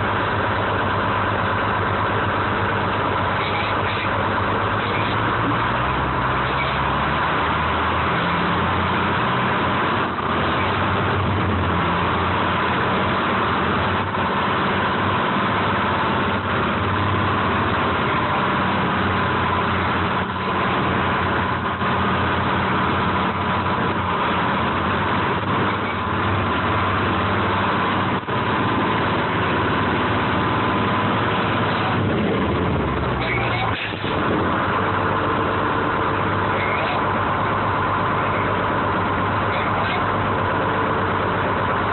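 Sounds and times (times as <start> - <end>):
crane engine running: 0.0 - 41.9.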